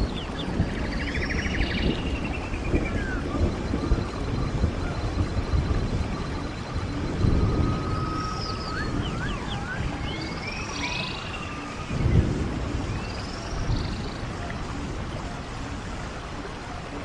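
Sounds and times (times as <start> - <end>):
bird singing whistled notes: 0.0 - 14.3
stream water running: 0.0 - 17.0.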